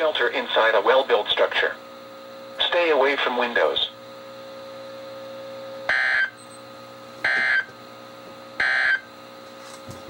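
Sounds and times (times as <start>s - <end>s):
low radio hum: 0.0s - 10.0s.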